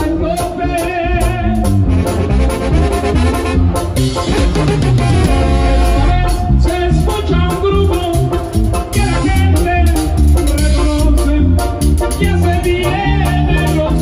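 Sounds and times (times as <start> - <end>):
upbeat latin-style music: 0.0 - 14.0.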